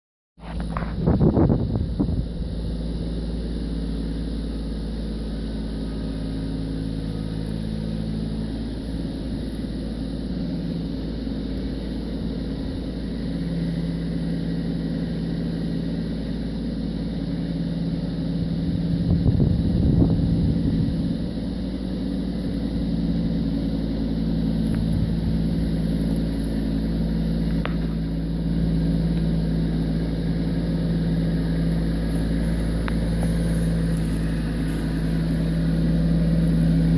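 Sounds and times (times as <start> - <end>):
tractor diesel engine running: 0.4 - 36.9.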